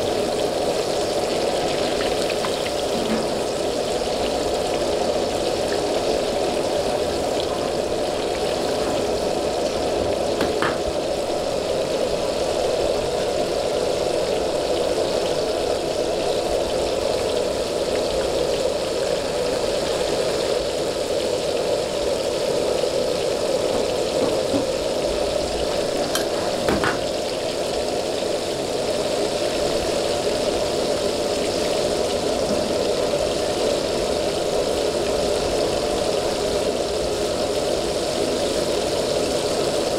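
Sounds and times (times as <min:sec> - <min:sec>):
gas burner rushing: 0:00.0 - 0:39.9
meat sizzling in hot oil: 0:00.0 - 0:39.9.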